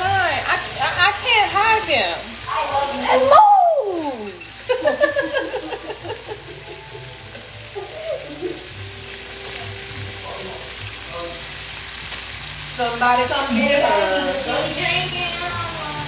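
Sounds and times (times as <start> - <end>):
food sizzling: 0.0 - 16.0.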